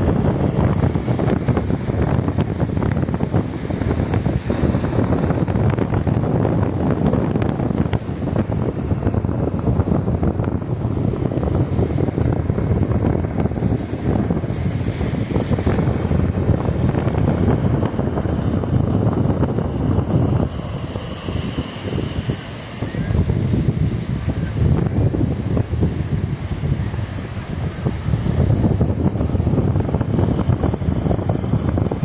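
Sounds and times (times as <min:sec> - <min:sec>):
lake waves washing on shore: 0:00.0 - 0:32.0
wind buffeting microphone: 0:00.0 - 0:32.0.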